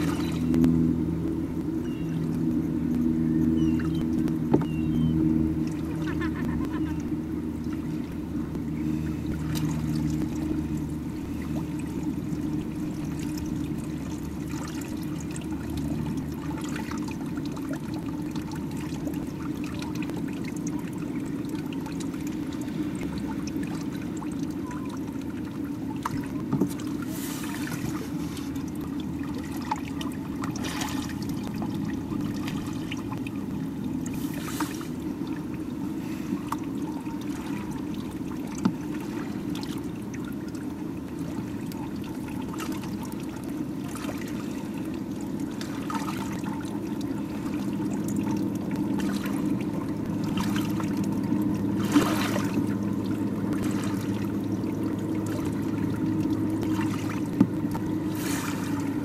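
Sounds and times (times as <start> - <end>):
exhaled bubbles rushing underwater: 0.0 - 59.0
steady low drone: 0.0 - 59.0.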